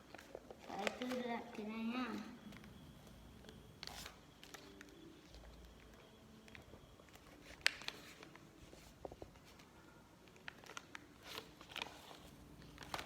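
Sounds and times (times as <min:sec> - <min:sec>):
paper rustling: 0:00.0 - 0:01.6, 0:03.8 - 0:13.0.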